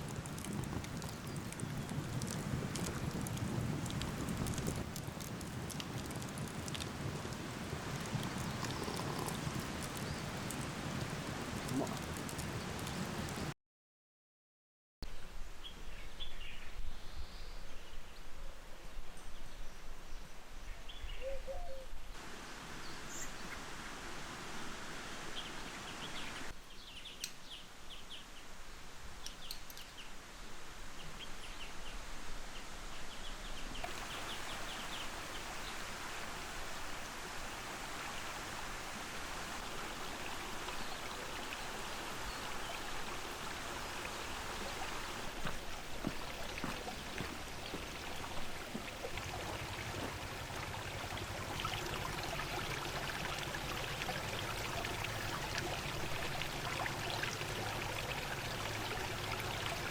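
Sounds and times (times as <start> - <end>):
steady outdoor hiss: 0.0 - 13.5, 15.1 - 59.9.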